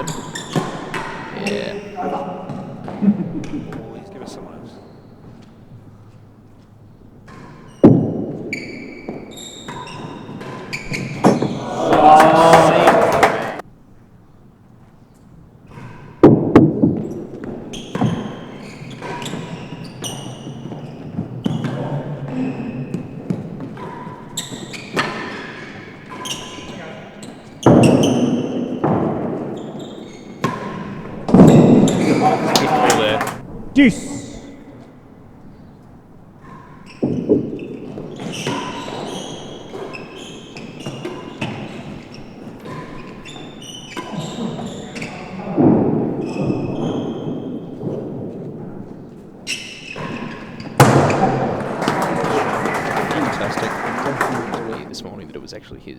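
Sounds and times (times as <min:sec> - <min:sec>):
ball hitting rackets and walls: 0:00.0 - 0:04.0, 0:05.2 - 0:13.6, 0:15.7 - 0:33.4, 0:35.8 - 0:52.1.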